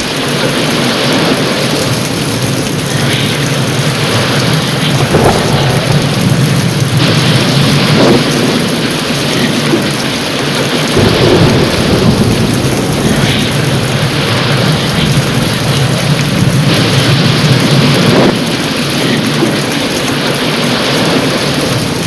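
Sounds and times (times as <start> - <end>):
heavy rain pouring: 0.0 - 22.0
rolling thunder: 0.0 - 22.0.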